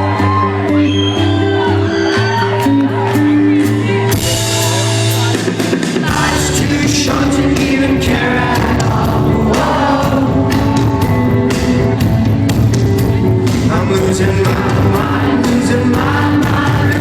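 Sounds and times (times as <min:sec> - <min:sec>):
live rock band with singing: 0:00.0 - 0:17.0.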